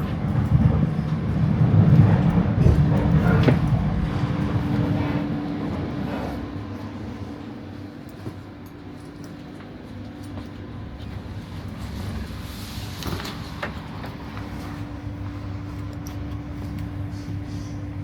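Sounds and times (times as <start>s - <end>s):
train low hum: 0.0s - 18.0s.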